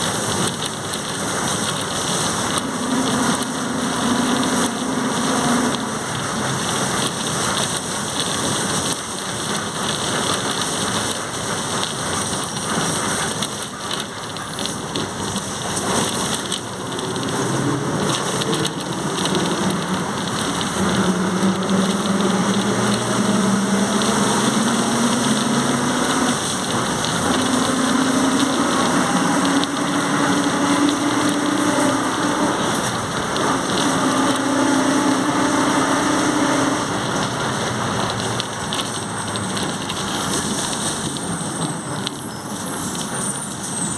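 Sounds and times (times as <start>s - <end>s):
bus road and body noise: 0.0s - 43.9s.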